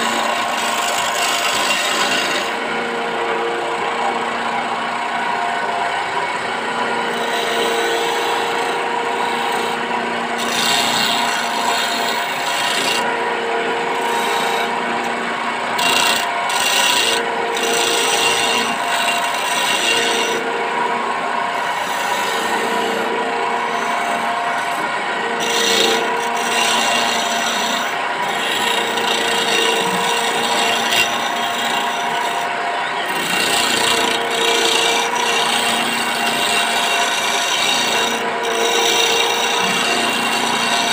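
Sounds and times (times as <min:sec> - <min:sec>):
chisel scraping spinning wood: 0:00.0 - 0:40.9
wood lathe motor hum: 0:00.0 - 0:40.9.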